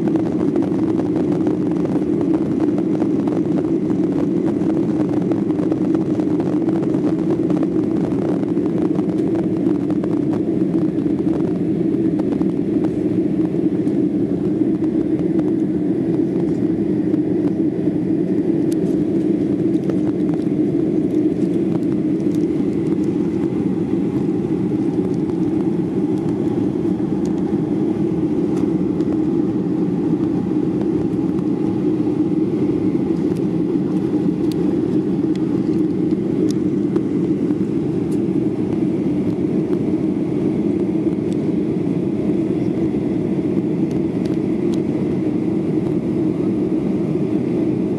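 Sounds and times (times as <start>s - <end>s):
faint high whine: 0.0s - 47.9s
jet engine cabin drone: 0.0s - 47.9s.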